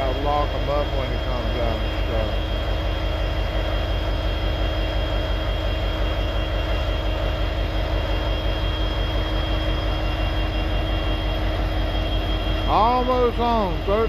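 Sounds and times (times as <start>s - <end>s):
constant whine: 0.0s - 14.0s
locomotive idling rumble: 0.0s - 14.0s.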